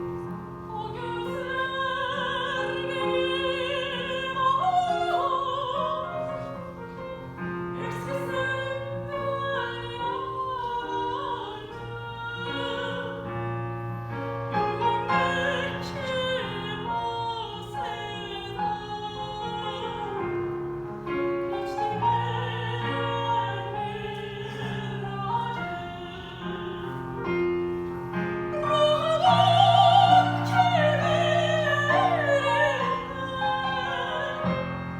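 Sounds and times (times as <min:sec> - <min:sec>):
piano accompaniment: 0:00.0 - 0:34.9
woman singing operatically: 0:00.6 - 0:06.6, 0:07.8 - 0:13.5, 0:14.6 - 0:20.5, 0:21.5 - 0:27.4, 0:28.5 - 0:34.9.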